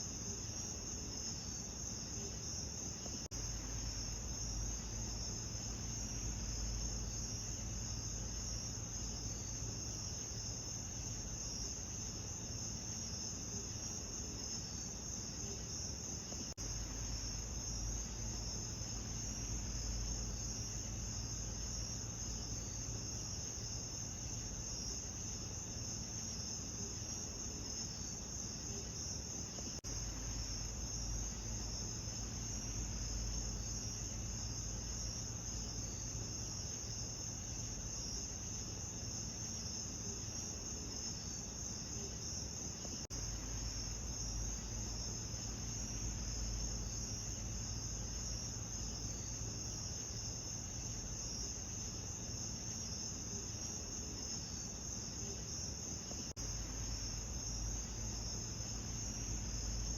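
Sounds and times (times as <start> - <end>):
night insects chirring: 0.0 - 59.9.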